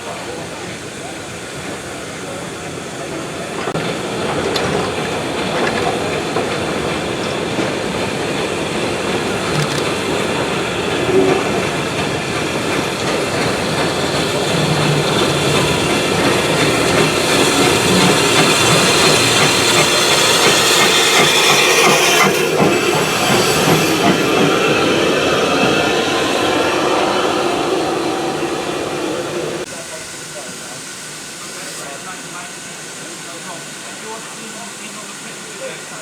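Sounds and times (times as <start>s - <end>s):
train wheels clacking on rails: 0.0s - 30.8s
rising hiss: 0.2s - 36.0s.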